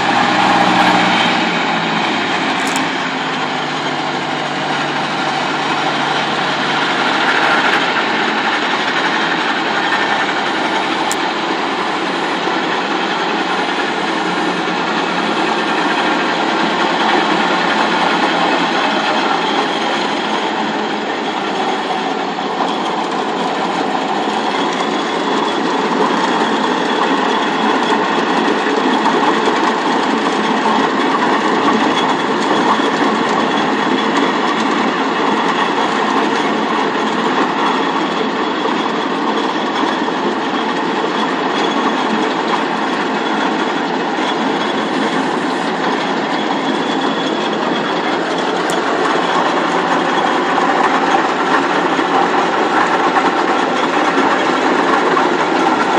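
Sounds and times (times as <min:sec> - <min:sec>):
combine harvester clattering: 0:00.0 - 0:55.9.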